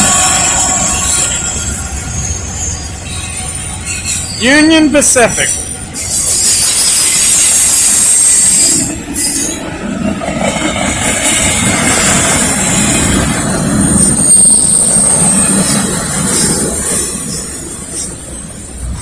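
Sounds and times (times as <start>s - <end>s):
high wheel squeal: 0.0s - 9.7s, 12.7s - 19.0s
freight train wheels rumbling on rail: 0.0s - 19.0s.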